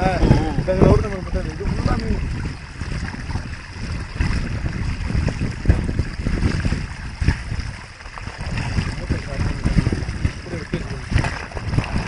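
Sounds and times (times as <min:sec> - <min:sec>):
water running: 0:00.0 - 0:12.0
wind buffeting microphone: 0:00.0 - 0:12.0.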